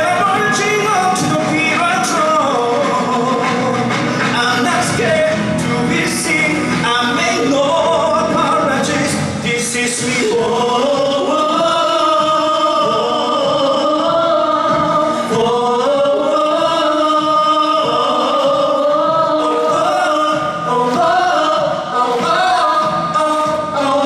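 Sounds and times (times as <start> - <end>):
musical accompaniment with beat: 0.0 - 24.0
singers holding wordless notes: 0.0 - 24.0.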